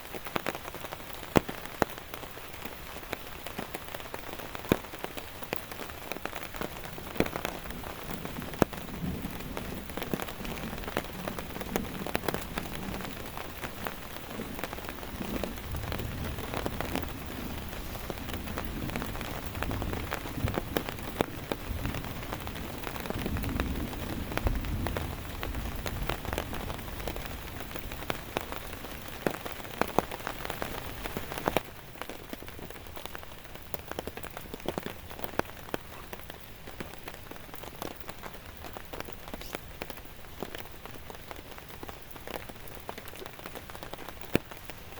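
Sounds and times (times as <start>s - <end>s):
heavy rain falling: 0.0s - 44.9s
raindrops ticking on a surface: 0.0s - 44.9s.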